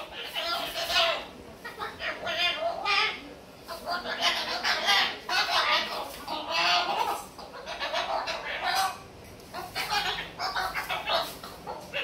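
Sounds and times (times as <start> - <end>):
cockatoo chattering: 0.0 - 12.0.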